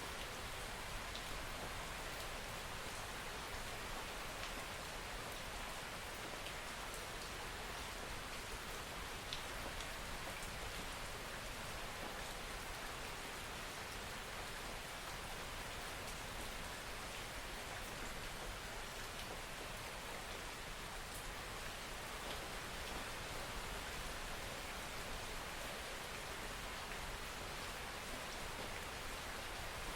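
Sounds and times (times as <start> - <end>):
steady rain patter: 0.0 - 29.9.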